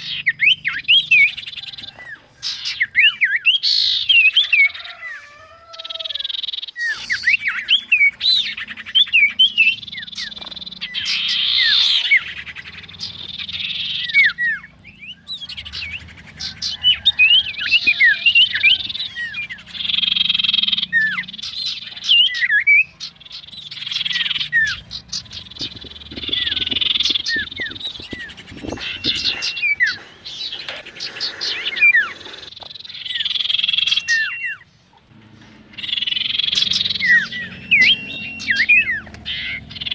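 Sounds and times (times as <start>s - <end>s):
small songbirds twittering: 0.0s - 39.9s.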